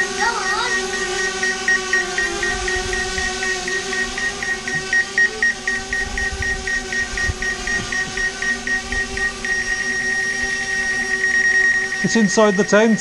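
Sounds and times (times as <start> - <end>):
drone propellers humming: 0.0 - 13.0
pulsing high tone: 0.0 - 13.0.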